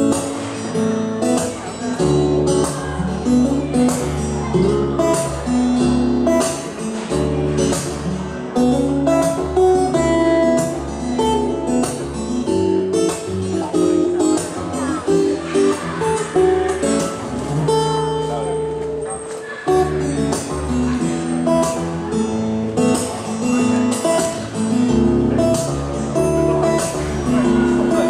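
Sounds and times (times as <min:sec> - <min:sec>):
fingerstyle acoustic guitar: 0:00.0 - 0:28.0.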